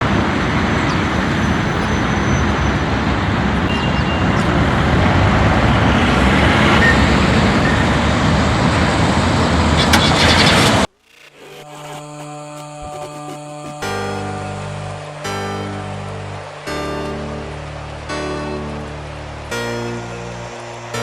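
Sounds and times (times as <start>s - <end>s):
loud road traffic noise: 0.0s - 10.9s, 14.4s - 21.0s.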